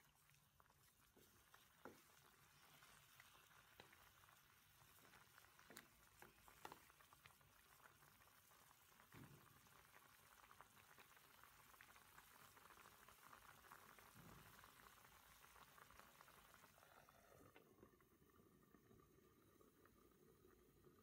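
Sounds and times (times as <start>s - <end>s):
meat simmering in a pan: 0.0s - 21.0s.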